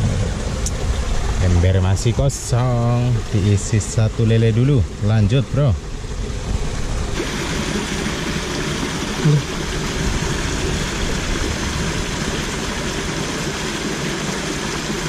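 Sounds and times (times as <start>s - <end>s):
water rushing into pool: 0.0s - 15.0s.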